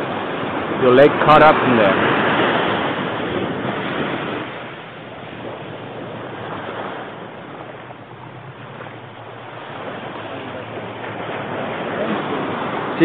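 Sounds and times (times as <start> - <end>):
sea surf washing up sand: 0.0 - 13.0.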